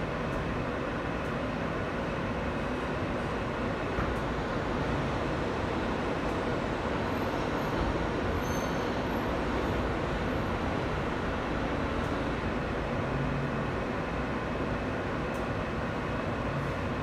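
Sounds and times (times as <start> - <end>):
subway car rumbling through tunnel: 0.0 - 17.0.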